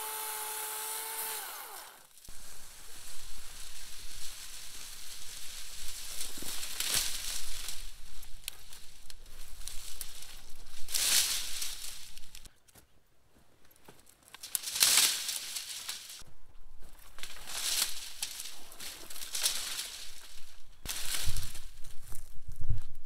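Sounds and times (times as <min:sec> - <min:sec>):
dry plant stalks rustling: 0:01.4 - 0:23.0.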